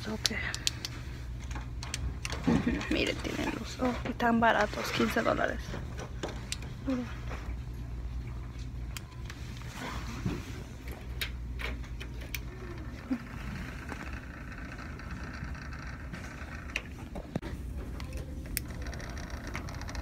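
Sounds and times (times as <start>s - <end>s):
low shop rumble: 0.0s - 20.0s.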